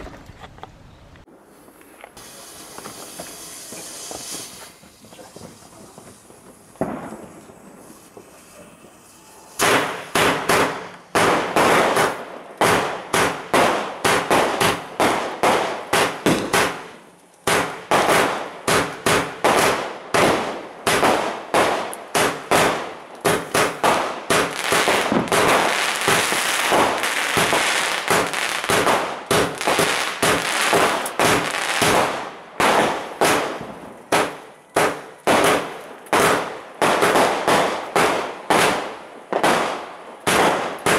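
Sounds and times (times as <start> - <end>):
dense firework crackling: 1.3 - 40.9
firework bangs: 1.3 - 40.9.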